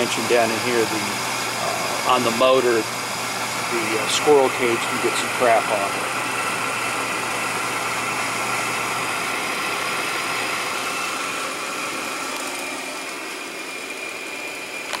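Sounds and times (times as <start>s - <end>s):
blower motor humming: 0.0s - 15.0s.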